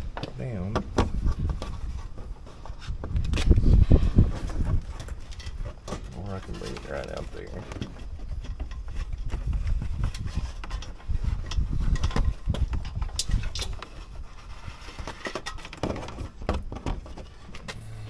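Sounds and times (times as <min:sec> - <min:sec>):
handling knocks and clicks: 0:00.0 - 0:03.6, 0:04.3 - 0:17.9.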